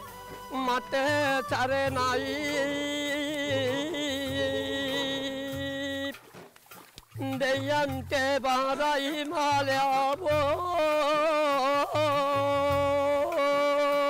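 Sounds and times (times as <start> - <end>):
man singing drawn-out notes: 0.4 - 6.2, 7.2 - 14.0.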